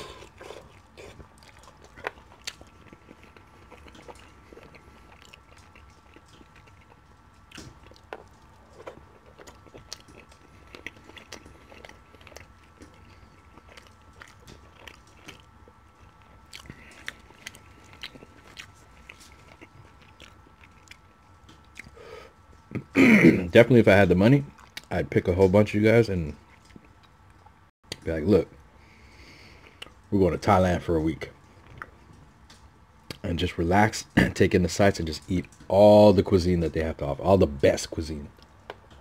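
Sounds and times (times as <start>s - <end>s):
faint high hum: 0.0s - 39.0s
man chewing and mouth sounds: 0.0s - 39.0s.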